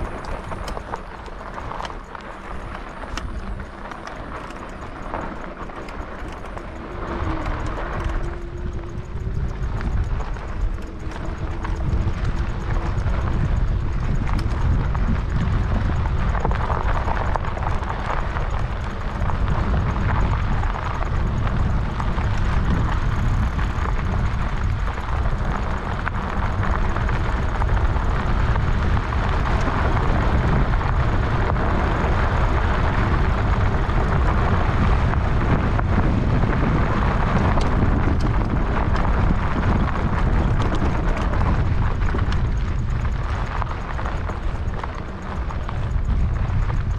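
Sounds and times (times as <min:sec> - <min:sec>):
bicycle tyre noise on rough road: 0:00.0 - 0:46.9
wind rumble on microphone: 0:00.0 - 0:46.9.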